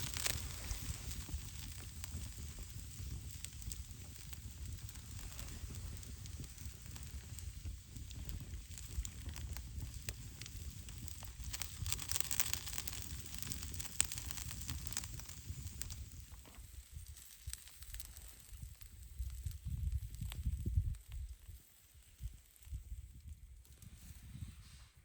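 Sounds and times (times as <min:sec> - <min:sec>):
campfire crackling and popping: 0:00.0 - 0:24.2.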